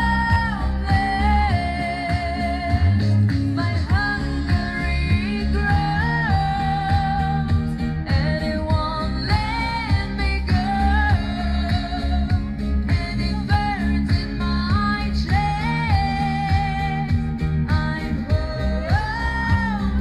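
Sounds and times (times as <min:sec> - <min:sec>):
sustained low bass: 0:00.0 - 0:20.0
woman singing pop ballad: 0:00.0 - 0:20.0.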